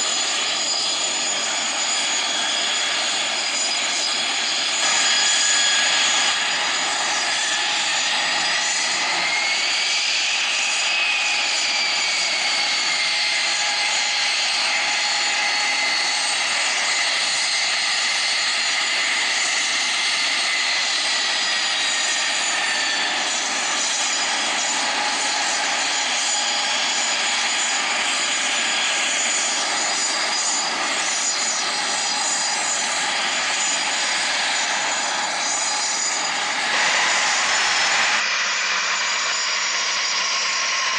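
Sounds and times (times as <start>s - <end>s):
high engine whine: 0.0s - 40.9s
jet engines running: 0.0s - 40.9s.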